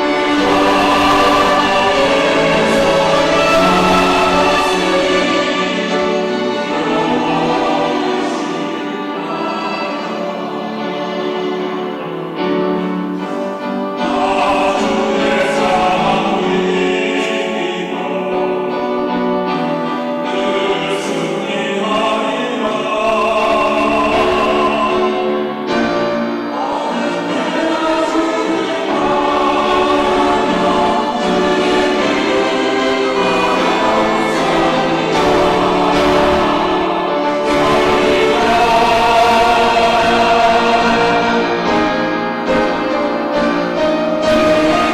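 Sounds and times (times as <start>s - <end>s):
church choir singing: 0.0s - 44.9s.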